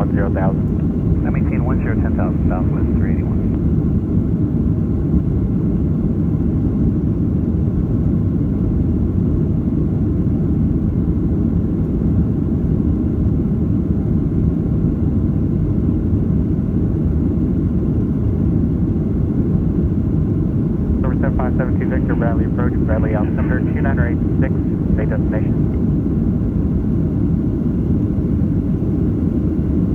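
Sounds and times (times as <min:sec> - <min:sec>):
jet engines at climb power: 0:00.0 - 0:29.9.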